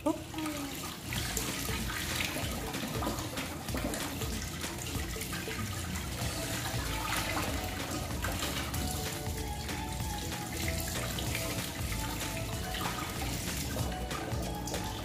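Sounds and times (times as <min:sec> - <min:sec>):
tap water running and splashing: 0:00.0 - 0:15.0.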